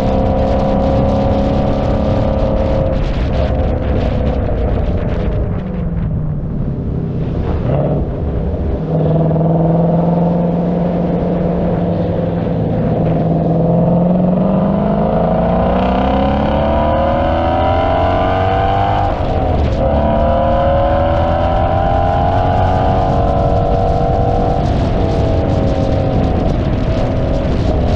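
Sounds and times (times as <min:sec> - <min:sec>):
car engine accelerating: 0:00.0 - 0:27.9.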